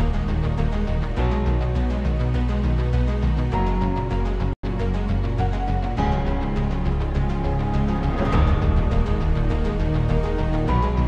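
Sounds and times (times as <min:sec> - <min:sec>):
steady low bass: 0:00.0 - 0:11.0
sustained chords music: 0:00.0 - 0:11.0.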